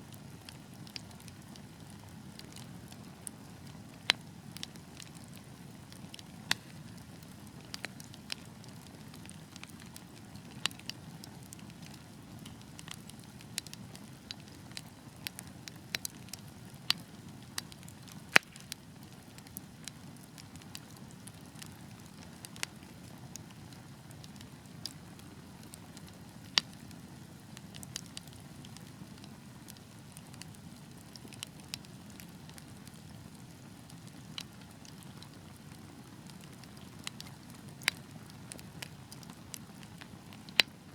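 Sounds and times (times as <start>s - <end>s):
burning logs popping: 0.2s - 40.9s.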